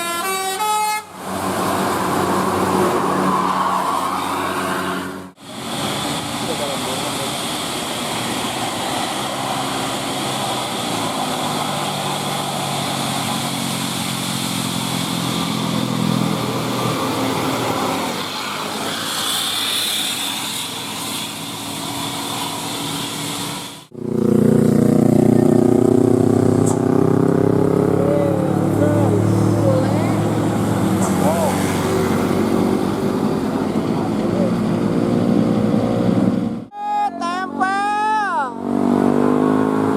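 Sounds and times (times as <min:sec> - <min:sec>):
large vehicles passing: 0:00.0 - 0:39.9
vehicle drone close by: 0:01.1 - 0:39.9.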